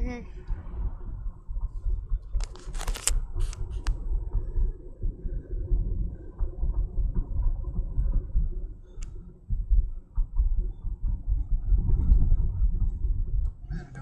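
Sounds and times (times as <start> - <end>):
road rumble inside vehicle cabin: 0.0 - 14.0.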